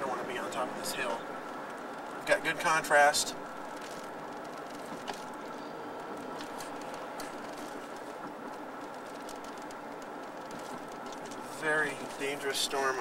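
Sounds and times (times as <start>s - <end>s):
car engine humming inside cabin: 0.0s - 13.0s.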